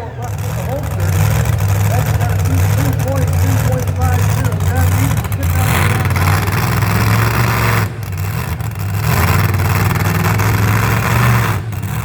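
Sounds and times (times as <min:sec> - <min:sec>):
truck engine running hard: 0:00.0 - 0:12.0.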